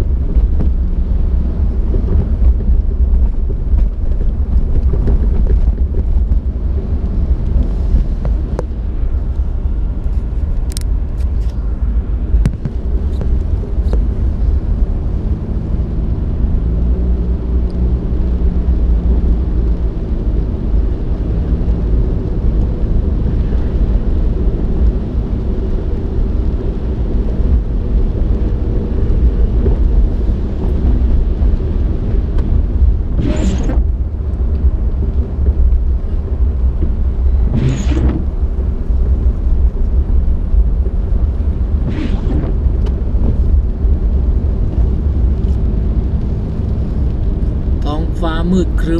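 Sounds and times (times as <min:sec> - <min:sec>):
wind buffeting microphone: 0:00.0 - 0:47.8.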